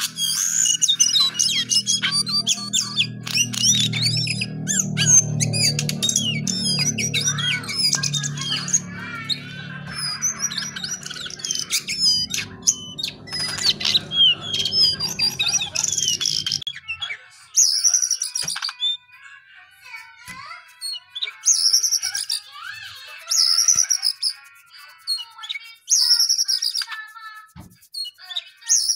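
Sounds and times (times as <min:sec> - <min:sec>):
bird chirping and whistling: 0:00.0 - 0:19.0, 0:20.7 - 0:27.2, 0:27.9 - 0:28.9.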